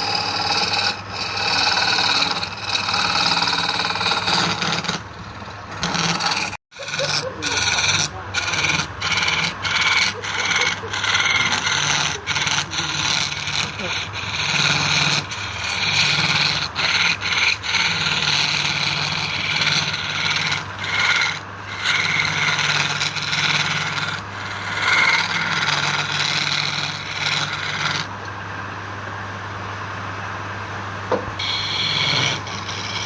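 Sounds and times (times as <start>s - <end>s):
lathe motor hum: 0.0s - 28.2s, 31.4s - 33.0s
tool scraping spinning wood: 0.0s - 28.3s, 31.4s - 33.0s.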